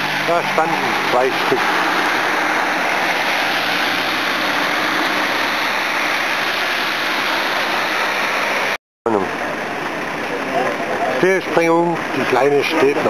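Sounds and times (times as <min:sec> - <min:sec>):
car tyres hissing on wet road: 0:00.0 - 0:08.8, 0:09.4 - 0:13.0.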